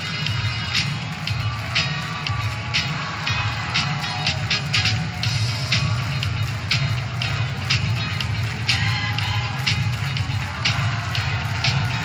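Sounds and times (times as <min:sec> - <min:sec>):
music with heavy bass beat: 0:00.0 - 0:12.0.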